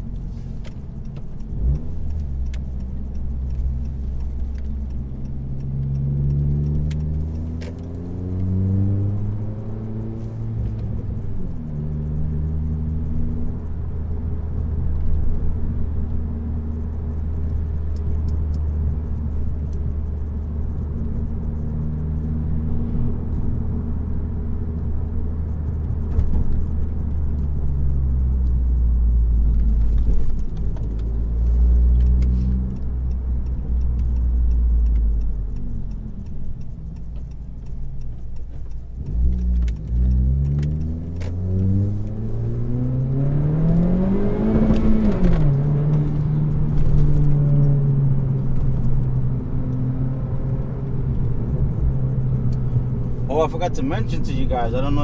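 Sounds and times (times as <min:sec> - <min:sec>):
car exhaust drone: 0:00.0 - 0:55.0.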